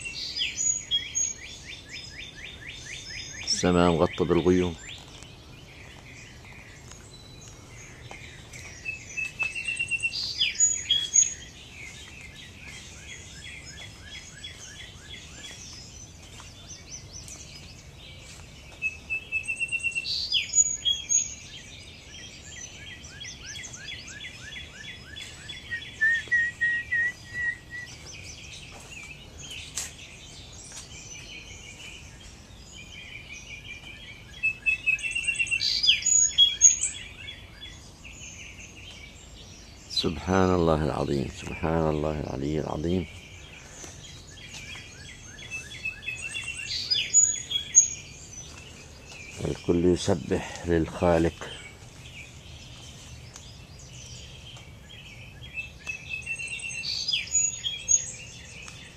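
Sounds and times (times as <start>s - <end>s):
many birds chirping and singing: 0.0s - 58.9s.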